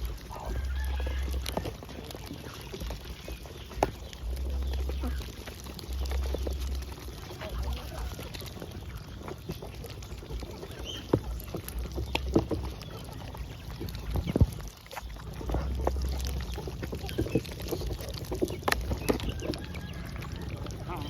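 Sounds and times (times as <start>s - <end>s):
ducks splashing in water: 0.0s - 21.0s
low rumble: 0.0s - 21.0s.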